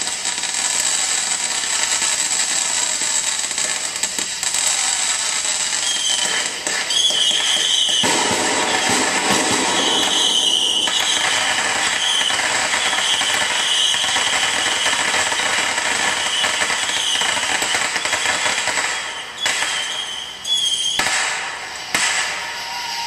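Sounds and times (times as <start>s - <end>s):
sharp firework pops: 0.0s - 20.1s, 20.9s - 22.6s
fireworks crackling: 0.0s - 23.0s
high firework whistle: 0.0s - 23.0s.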